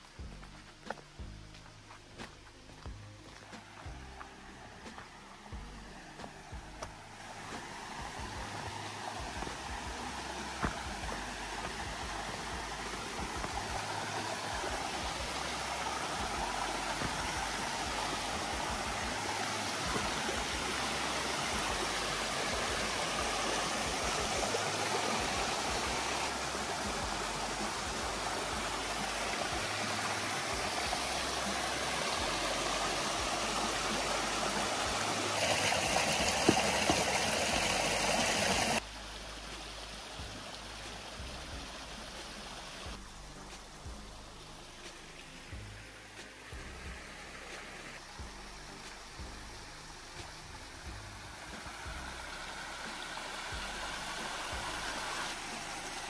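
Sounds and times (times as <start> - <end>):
stream rushing over rocks: 2.3 - 56.0.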